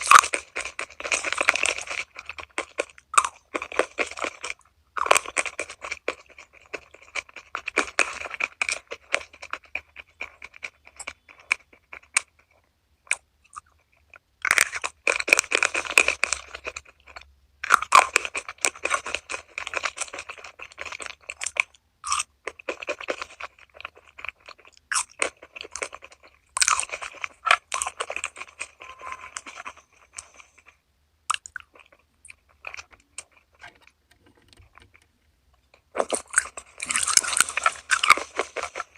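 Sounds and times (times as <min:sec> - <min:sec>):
chewing crispy food: 0:00.0 - 0:38.9.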